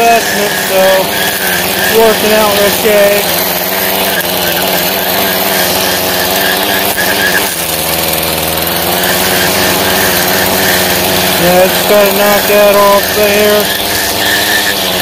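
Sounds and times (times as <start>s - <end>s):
string trimmer engine running: 0.0s - 15.0s
trimmer line cutting grass: 0.0s - 15.0s.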